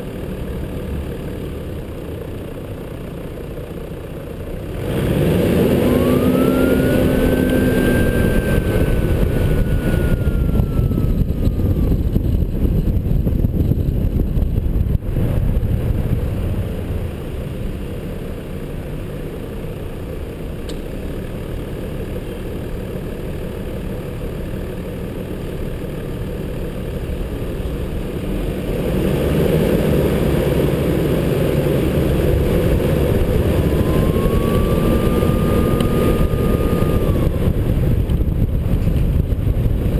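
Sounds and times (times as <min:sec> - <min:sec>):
road noise: 0:00.0 - 0:39.9
vehicle engine whine: 0:00.0 - 0:39.9.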